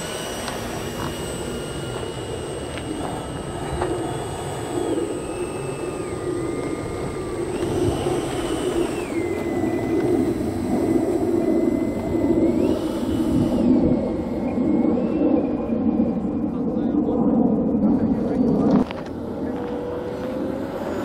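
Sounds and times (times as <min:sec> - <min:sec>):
electric ducted fans whining: 0:00.0 - 0:21.0.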